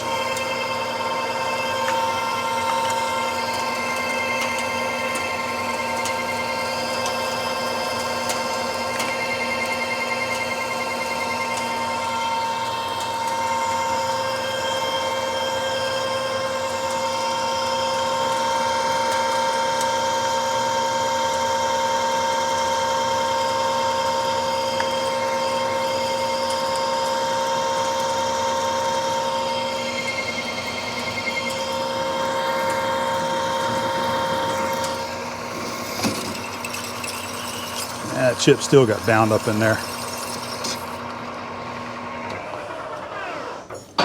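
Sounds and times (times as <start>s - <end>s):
lathe whining: 0.0s - 43.7s.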